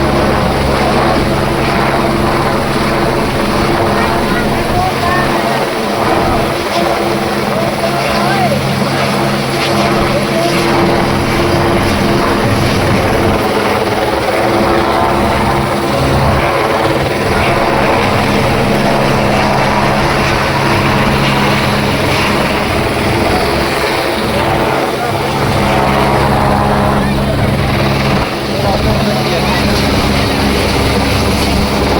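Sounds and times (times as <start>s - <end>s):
helicopter rotor drone: 0.0s - 31.9s.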